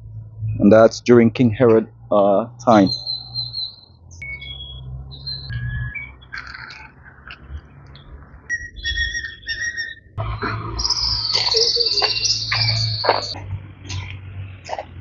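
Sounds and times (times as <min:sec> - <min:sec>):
birds chirping and whistling: 0:01.6 - 0:15.0.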